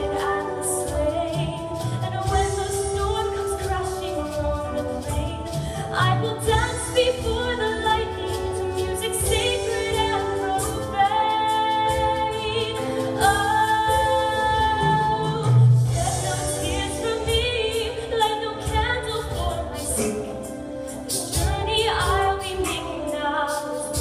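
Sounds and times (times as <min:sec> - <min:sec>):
orchestra accompanying: 0:00.0 - 0:24.0
woman singing ballad: 0:00.0 - 0:24.0.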